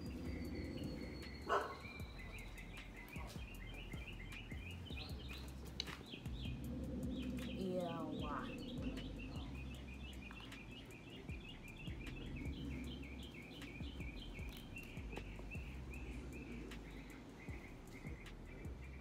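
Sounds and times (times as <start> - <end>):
bird chirping rapidly: 0.0 - 19.0
low background rumble: 0.0 - 19.0.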